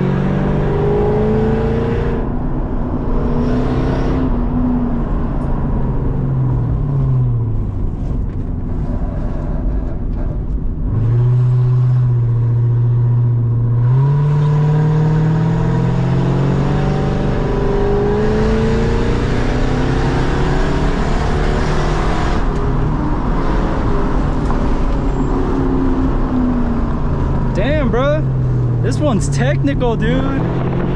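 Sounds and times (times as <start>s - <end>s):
car engine with loud exhaust revving: 0.0s - 30.9s.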